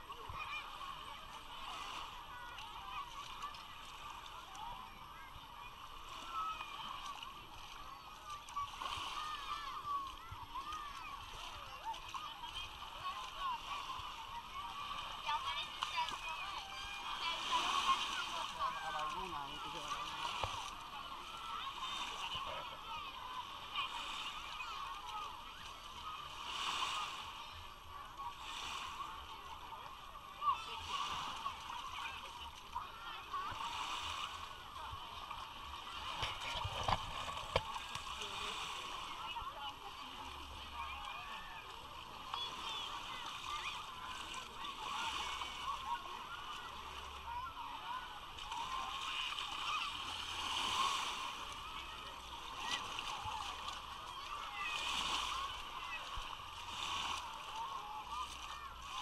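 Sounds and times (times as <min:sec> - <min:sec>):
crowd chattering and calling out: 0:00.0 - 0:59.0
small waves splashing: 0:00.0 - 0:59.0.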